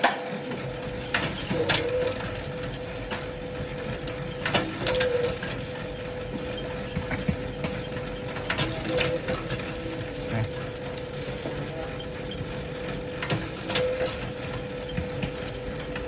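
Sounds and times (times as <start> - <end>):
machine motor humming: 0.0 - 16.0.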